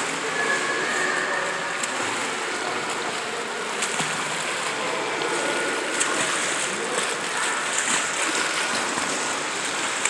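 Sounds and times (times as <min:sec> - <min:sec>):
swim fins splashing water: 0:00.0 - 0:10.0.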